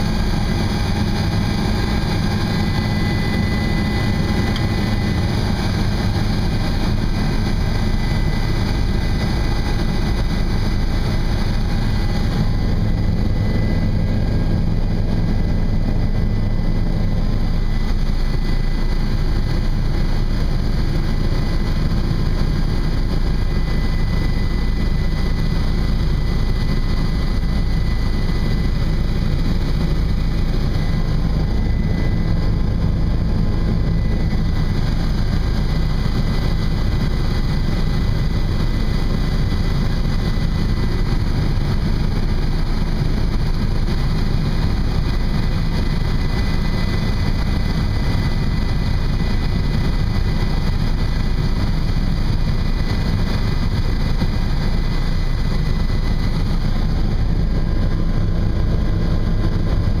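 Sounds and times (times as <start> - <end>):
helicopter engine and rotor drone: 0.0 - 60.0
thin steady whine: 0.0 - 60.0.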